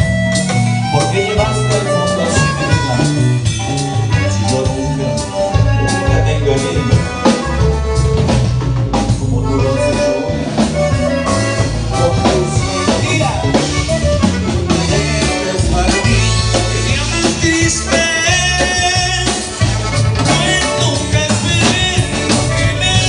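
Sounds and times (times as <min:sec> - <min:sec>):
button accordion: 0:00.0 - 0:23.0
drum kit beat: 0:00.0 - 0:23.0
electric bass: 0:00.0 - 0:23.0
guitar: 0:00.0 - 0:23.0
live band playing: 0:00.0 - 0:23.0.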